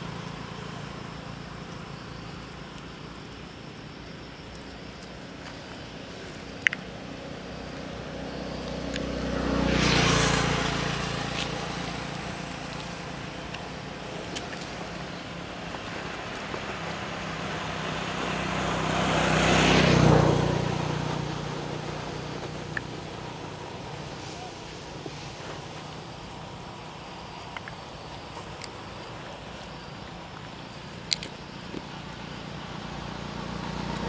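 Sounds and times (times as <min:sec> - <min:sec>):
road vehicles passing: 0:00.0 - 0:34.0.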